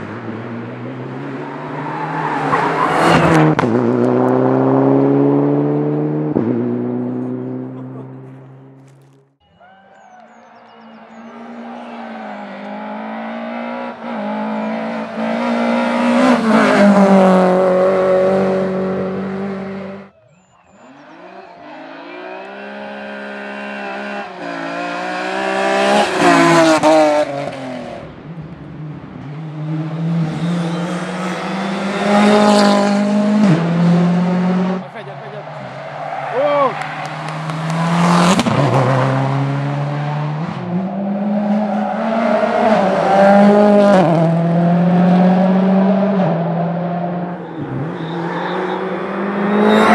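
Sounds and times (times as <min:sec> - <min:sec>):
rally car engine passing by: 0:00.0 - 0:09.1, 0:10.4 - 0:49.9.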